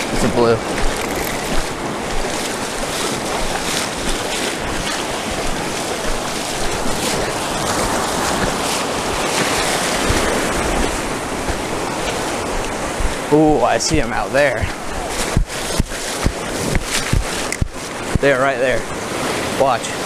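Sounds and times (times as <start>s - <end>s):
wind buffeting microphone: 0.0s - 19.7s
ocean surf breaking: 0.0s - 20.0s.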